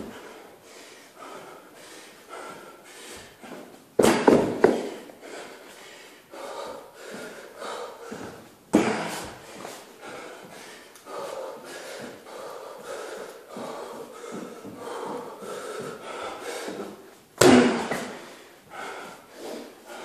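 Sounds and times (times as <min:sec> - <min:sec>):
man breathing hard: 0:00.0 - 0:20.0.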